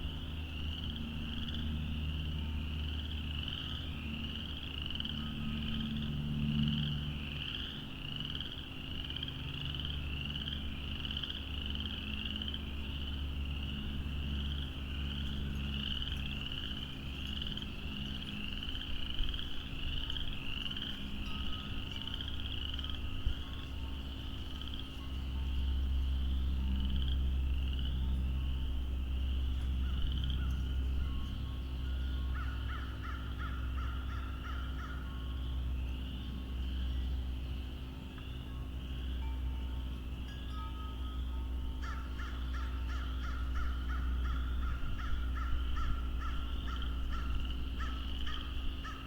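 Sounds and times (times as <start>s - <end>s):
frogs calling: 0.0s - 49.0s.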